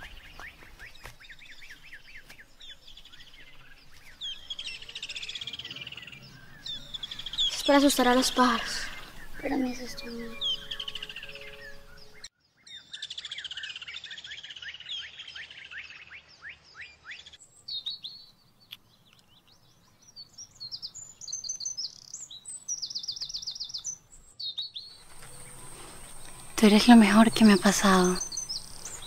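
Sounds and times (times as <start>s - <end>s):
birds chirping and trilling: 0.0s - 29.0s.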